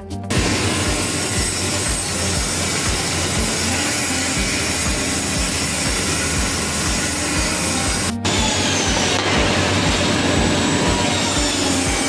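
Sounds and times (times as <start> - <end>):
power tool running: 0.0 - 12.0.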